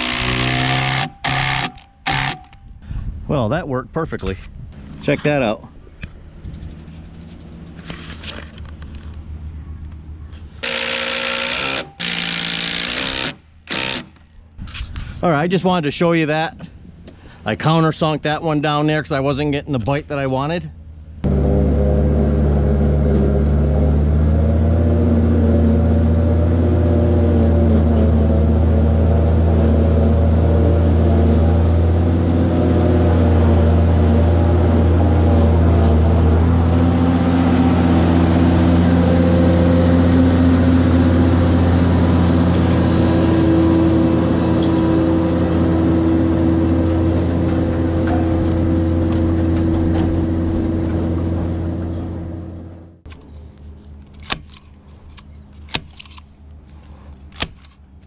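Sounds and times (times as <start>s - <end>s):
machinery engine running: 0.0s - 2.8s, 4.7s - 14.6s, 20.8s - 57.4s.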